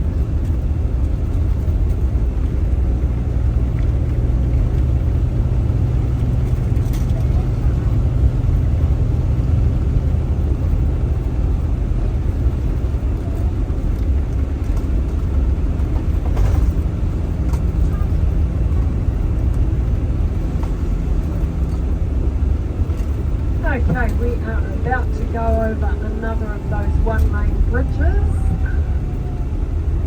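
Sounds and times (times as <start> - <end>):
vehicle road rumble: 0.0 - 30.0.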